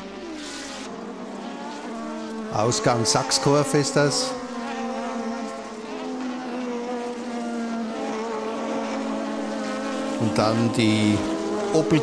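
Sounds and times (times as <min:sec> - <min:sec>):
racing cars passing at high revs: 0:00.0 - 0:12.0.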